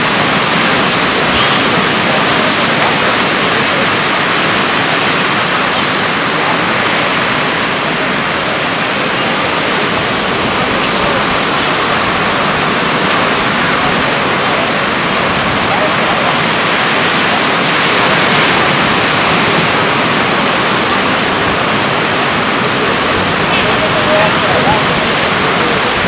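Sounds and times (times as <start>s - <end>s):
heavy ocean surf breaking: 0.0s - 26.0s.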